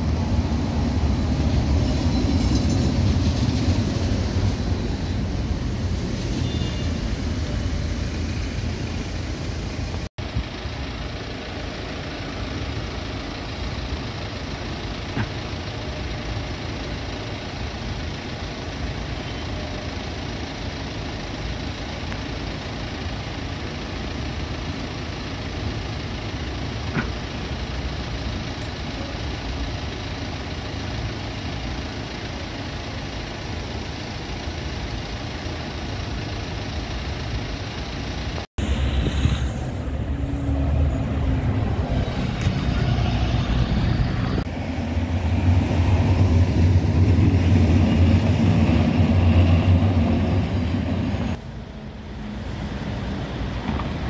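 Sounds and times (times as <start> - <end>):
bus driving past: 0.0 - 54.0
street traffic: 0.0 - 54.0
tram passing: 0.0 - 54.0
vehicles idling: 0.0 - 54.0.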